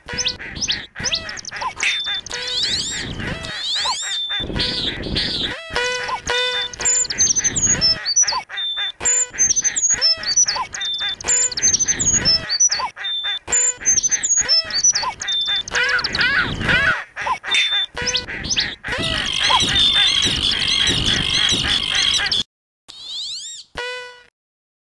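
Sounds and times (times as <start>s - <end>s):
chorus of birds calling: 0.0s - 22.4s
looped bird call rhythm: 0.0s - 22.4s.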